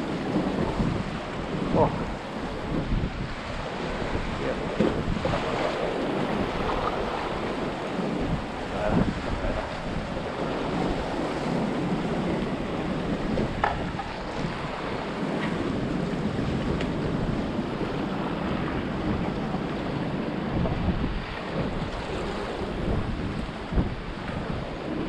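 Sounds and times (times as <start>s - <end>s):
waves splashing against concrete: 0.0s - 25.0s
wind buffeting microphone: 0.0s - 25.0s.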